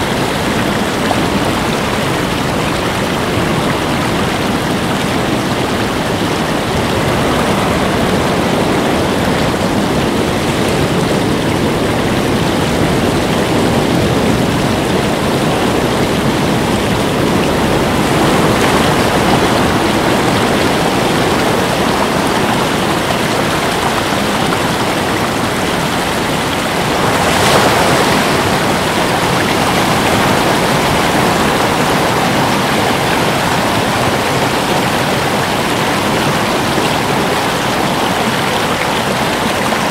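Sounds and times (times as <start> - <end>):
ocean surf on rocky shore: 0.0 - 39.9.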